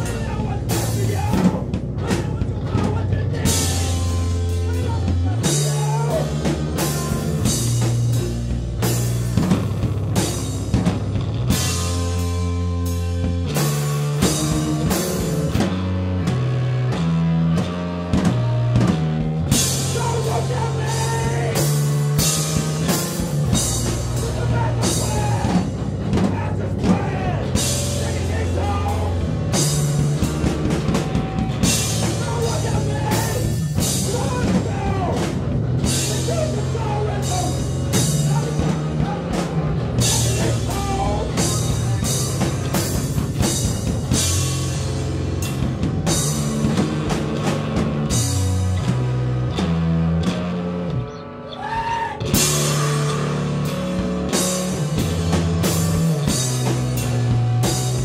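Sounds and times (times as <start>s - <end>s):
drum kit hitting hard: 0.0s - 50.6s, 51.6s - 58.0s
rock band playing live: 0.0s - 58.0s.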